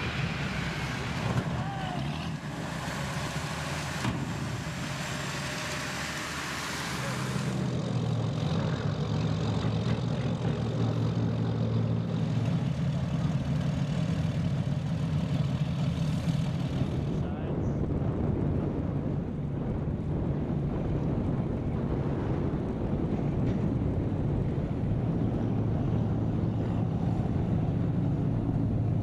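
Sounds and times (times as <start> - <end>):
boat engine humming: 0.0 - 19.0, 20.9 - 29.0.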